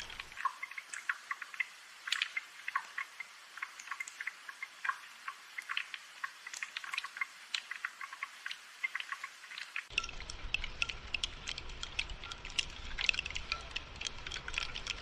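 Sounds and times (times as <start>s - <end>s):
rain dripping and pattering: 0.0s - 15.0s.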